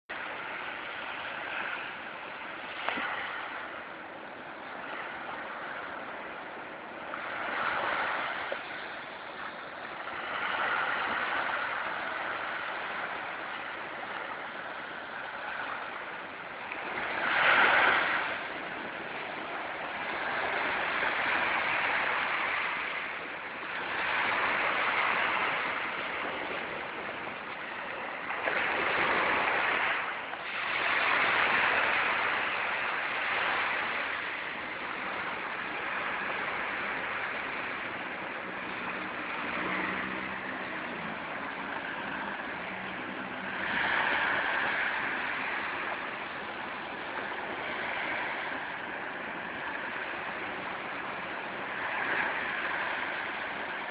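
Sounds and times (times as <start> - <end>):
sea waves breaking: 0.1 - 53.9.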